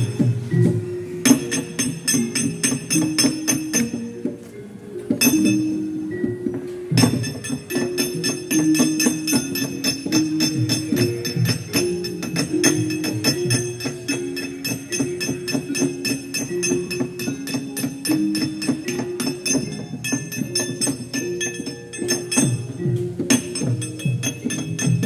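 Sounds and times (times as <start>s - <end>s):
bell-like tuned notes: 0.0s - 25.0s.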